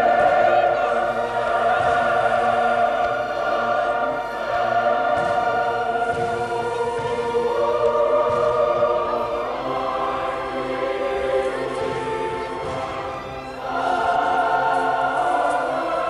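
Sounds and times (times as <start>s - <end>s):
choir singing sustained chords: 0.0s - 16.0s.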